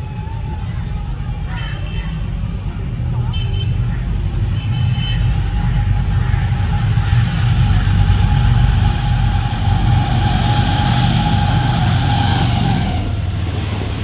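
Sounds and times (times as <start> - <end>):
locomotive rumbling: 0.0 - 14.0
rushing rail and wheel noise: 0.0 - 14.0.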